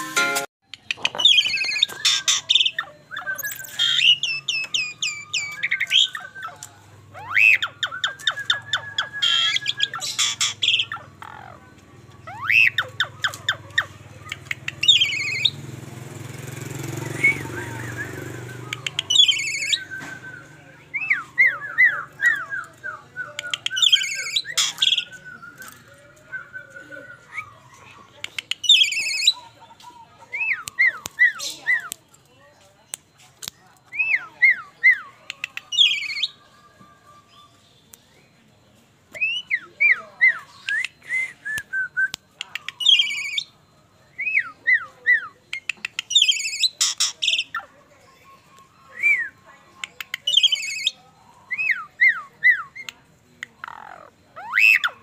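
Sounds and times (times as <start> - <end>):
starling singing: 0.6 - 55.0.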